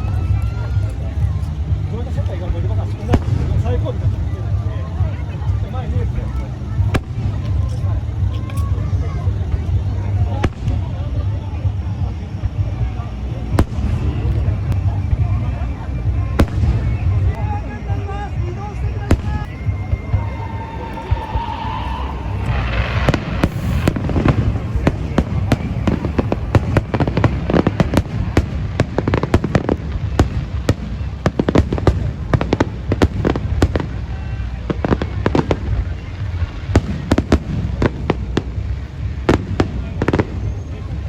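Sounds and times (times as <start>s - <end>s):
continuous low rumble: 0.0s - 41.0s.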